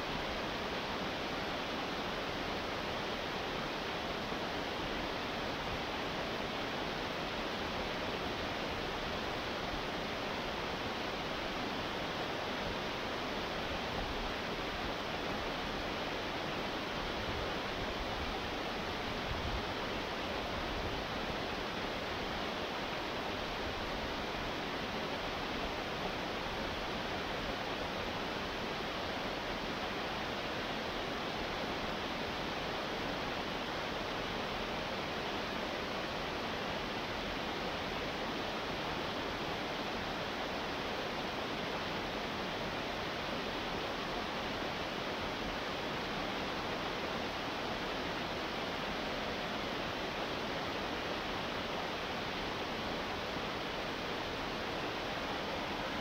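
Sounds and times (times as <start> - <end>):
waterfall cascading over rocks: 0.0 - 56.0.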